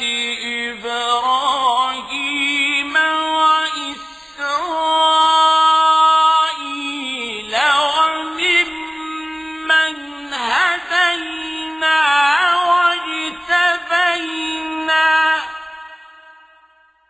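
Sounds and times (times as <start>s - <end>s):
man chanting: 0.0s - 16.4s.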